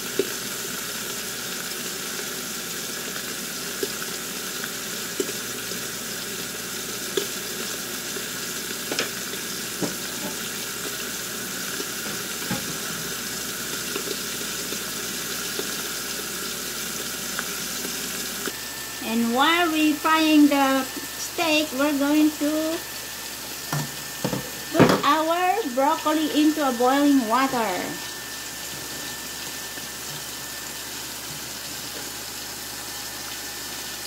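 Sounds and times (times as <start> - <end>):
steak sizzling in a frying pan: 0.0 - 34.0.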